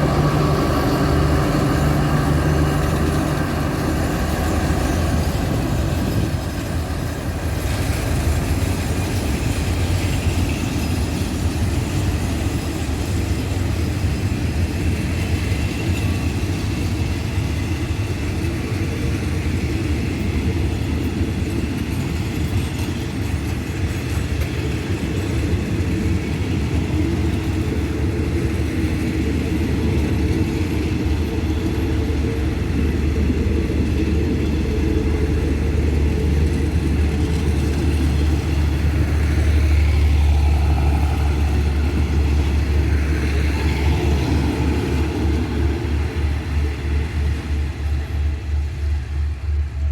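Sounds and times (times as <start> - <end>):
locomotive engine rumble: 0.0 - 49.9
railcars rolling: 0.0 - 49.9.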